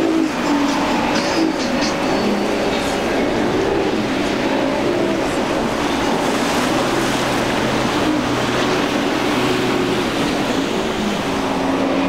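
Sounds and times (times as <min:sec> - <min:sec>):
surf and spray rushing: 0:00.0 - 0:12.0.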